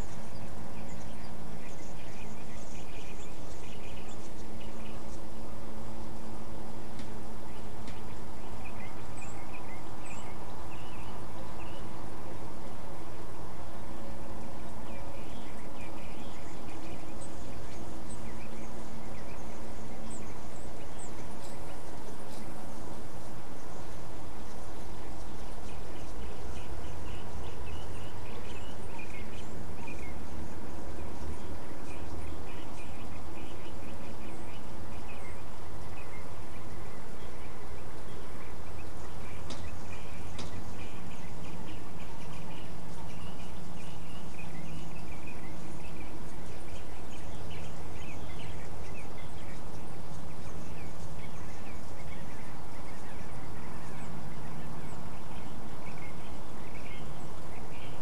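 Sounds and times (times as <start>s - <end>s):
microphone hiss and hum: 0.0s - 58.0s.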